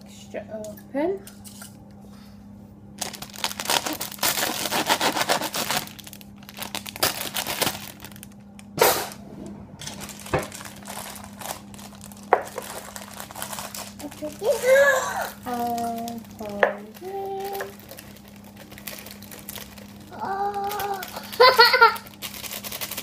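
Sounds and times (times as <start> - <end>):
plastic bag crinkling: 3.0 - 8.7, 9.8 - 23.0.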